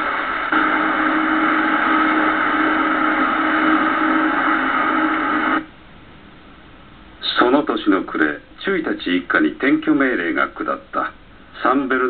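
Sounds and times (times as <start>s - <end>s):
film soundtrack through tv speaker: 0.0s - 12.0s.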